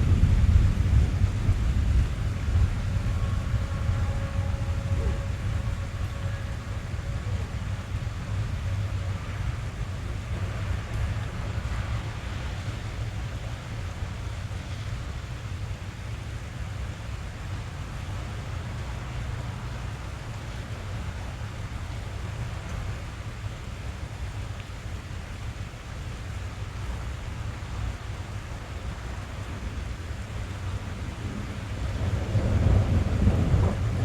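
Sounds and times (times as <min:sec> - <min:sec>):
deep constant rumble: 0:00.0 - 0:34.0
rain drumming on a car roof: 0:00.0 - 0:34.0.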